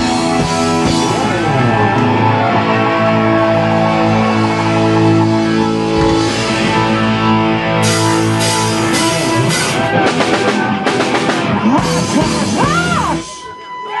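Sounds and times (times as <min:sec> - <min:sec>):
bending guitar notes: 0:00.0 - 0:14.0
rock band playing: 0:00.0 - 0:14.0.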